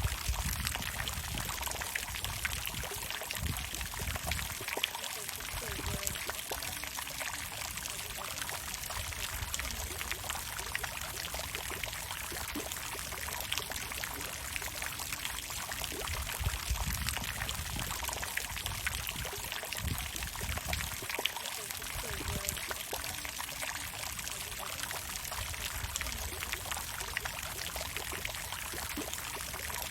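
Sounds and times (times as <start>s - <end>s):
low rumble of falling water: 0.0s - 29.9s
water fountain splashing: 0.0s - 29.9s.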